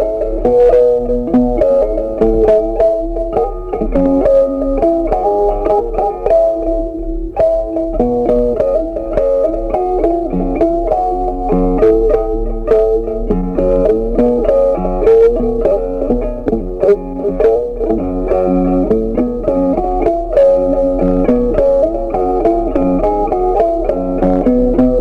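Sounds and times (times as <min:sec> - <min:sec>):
instrumental music: 0:00.0 - 0:25.0.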